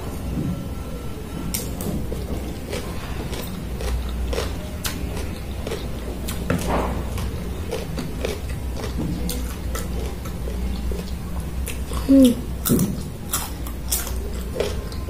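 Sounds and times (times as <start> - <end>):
low steady hum: 0.0 - 15.0
chewing and crunching: 1.5 - 15.0.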